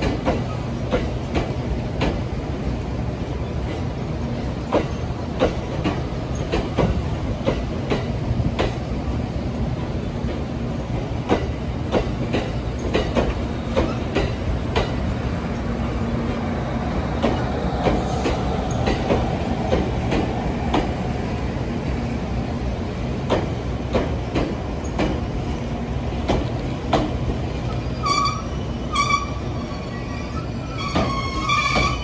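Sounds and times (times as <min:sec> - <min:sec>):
train low rumble: 0:00.0 - 0:32.0
wheels clicking over rail joints: 0:00.0 - 0:32.0.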